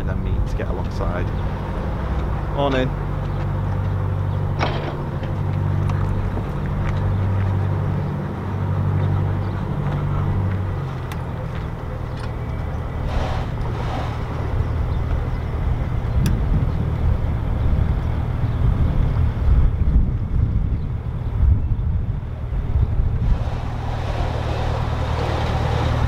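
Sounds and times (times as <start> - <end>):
boat engine running: 0.0 - 19.9, 22.2 - 26.0.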